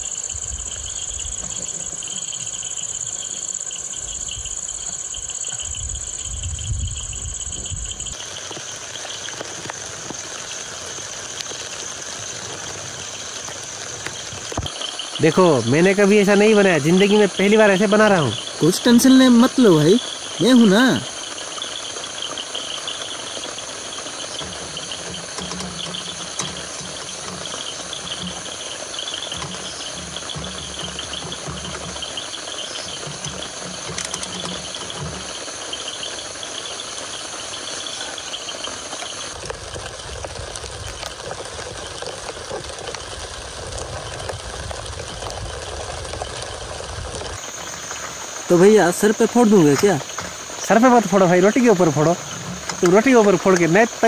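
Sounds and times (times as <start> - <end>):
insects chirping in pulsing trill: 0.0 - 54.0
steady hiss: 0.0 - 54.0.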